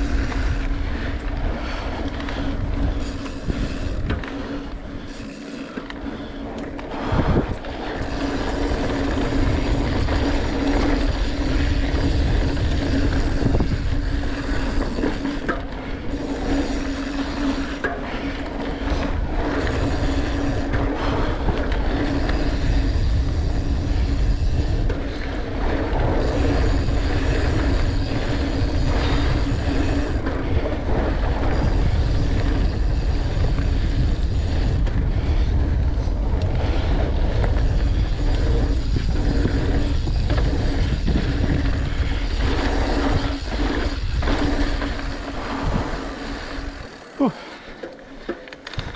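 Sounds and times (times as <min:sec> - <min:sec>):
wind rush on microphone: 0:00.0 - 0:47.0
bike tyres rolling over dirt: 0:00.0 - 0:48.9.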